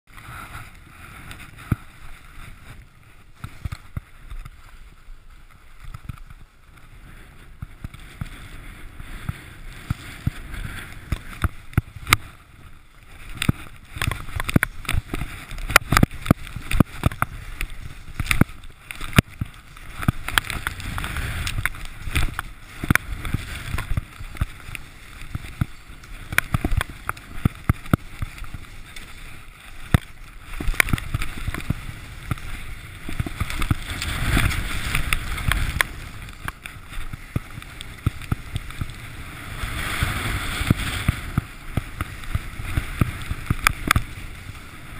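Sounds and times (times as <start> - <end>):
skis scraping through snow: 0.1 - 44.9.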